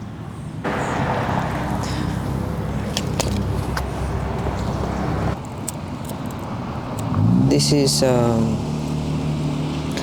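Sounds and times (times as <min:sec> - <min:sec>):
vehicle engine running: 0:00.6 - 0:05.4, 0:06.6 - 0:10.0.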